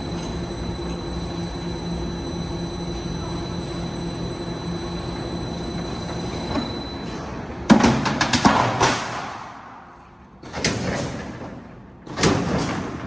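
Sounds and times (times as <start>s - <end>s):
machine humming with high whine: 0.0s - 10.5s.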